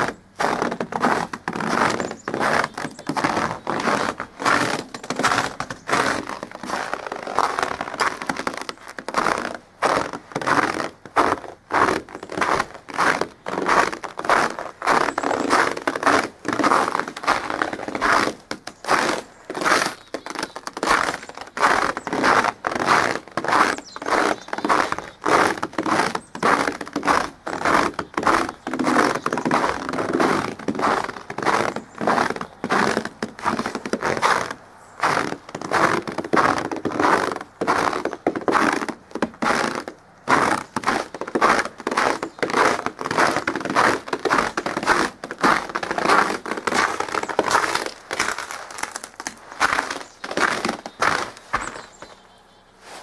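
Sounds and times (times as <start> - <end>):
footsteps crunching through snow: 0.0 - 53.0.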